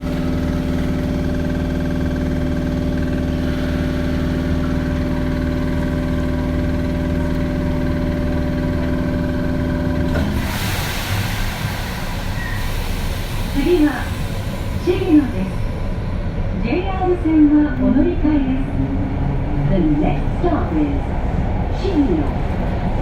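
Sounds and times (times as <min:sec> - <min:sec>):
subway car electrical hum: 0:00.0 - 0:23.0.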